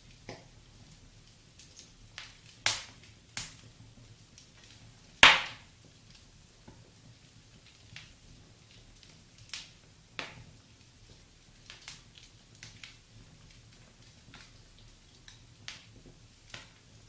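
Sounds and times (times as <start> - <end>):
fire crackling: 0.0 - 17.0
sharp pops of fire: 0.1 - 17.0.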